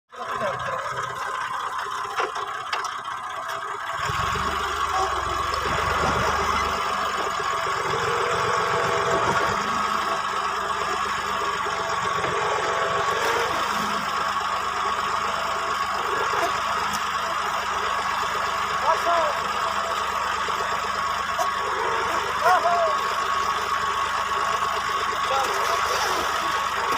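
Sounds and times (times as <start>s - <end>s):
tractor diesel engine running: 0.1s - 26.9s.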